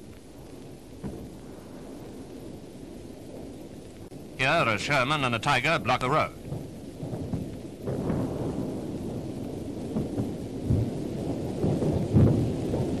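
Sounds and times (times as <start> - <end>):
low rumble with crackle: 0.0 - 13.0.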